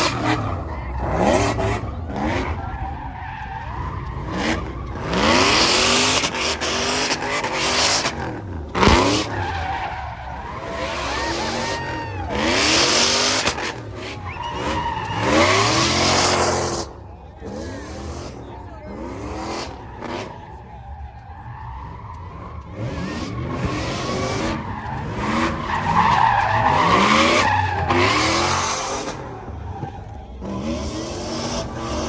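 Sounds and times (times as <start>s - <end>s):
tire squeal: 0.0s - 32.0s
truck engines revving: 0.0s - 32.0s.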